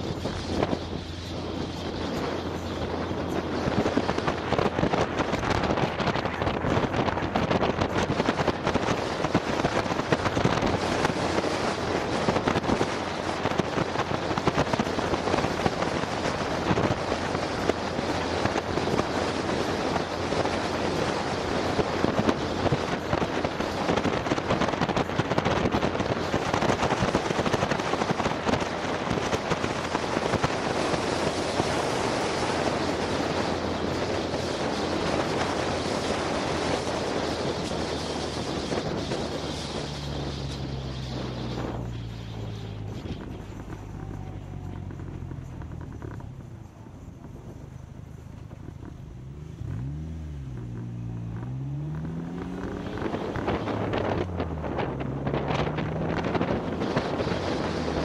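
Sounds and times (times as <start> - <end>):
road and engine noise: 0.0 - 58.0
wind buffeting microphone: 0.0 - 58.0.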